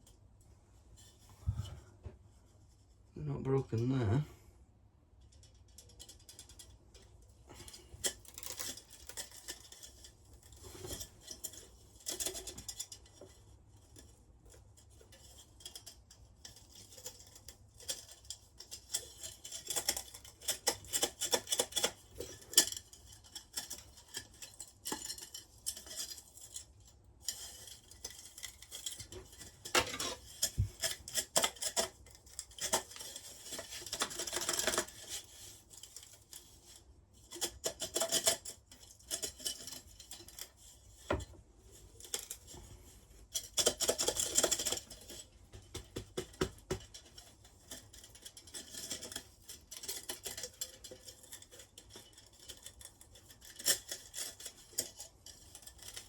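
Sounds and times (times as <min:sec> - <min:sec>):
clicks clinks and scrapes of handled parts: 0:05.1 - 0:56.0.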